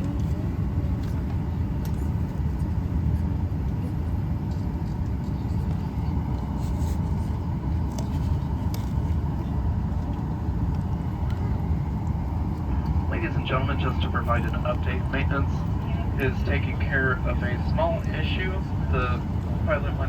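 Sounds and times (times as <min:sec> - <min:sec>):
airliner cabin rumble: 0:00.0 - 0:20.0
faint steady hum: 0:00.0 - 0:20.0.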